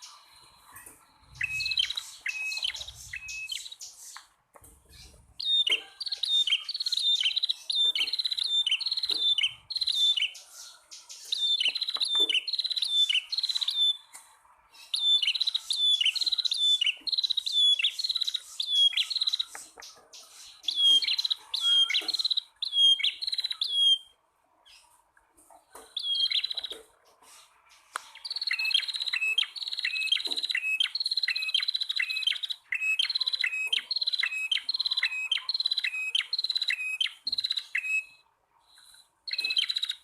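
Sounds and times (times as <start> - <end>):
birds calling with trilled notes: 0.0 - 40.0.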